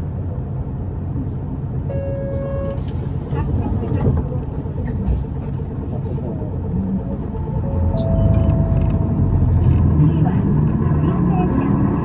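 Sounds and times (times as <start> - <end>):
bus engine inside cabin: 0.0 - 12.0.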